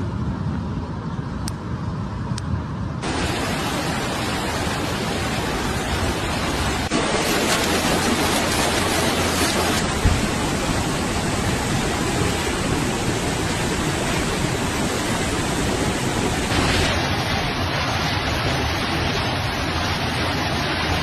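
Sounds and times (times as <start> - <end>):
river rushing: 3.0 - 21.0.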